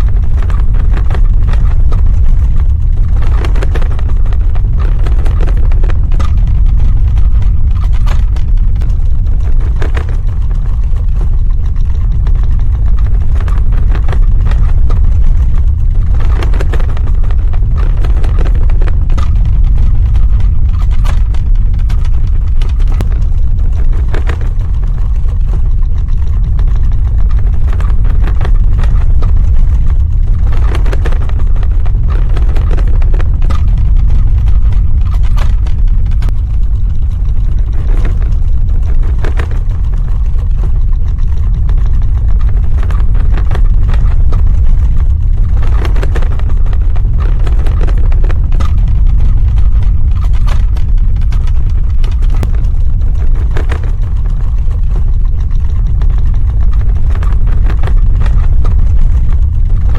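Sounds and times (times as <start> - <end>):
cracks and crackles: 0.0 - 59.9
deep earthquake rumble: 0.0 - 59.9.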